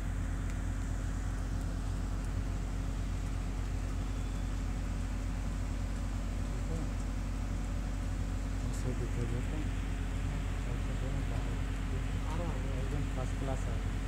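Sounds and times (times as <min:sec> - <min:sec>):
fluttering engine rumble: 0:00.0 - 0:14.0
low machine hum: 0:00.0 - 0:14.0.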